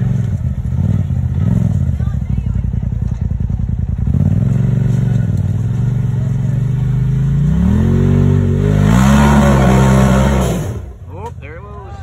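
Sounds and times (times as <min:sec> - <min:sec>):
utility vehicle engine revving: 0:00.0 - 0:11.4.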